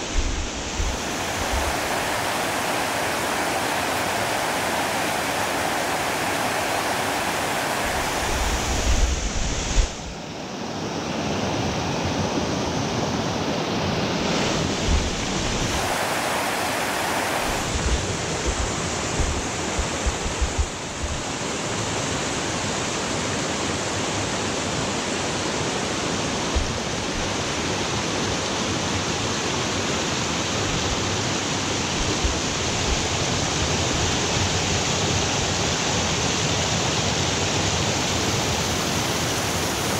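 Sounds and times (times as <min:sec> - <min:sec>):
stream rushing over cascades: 0:00.0 - 0:39.9.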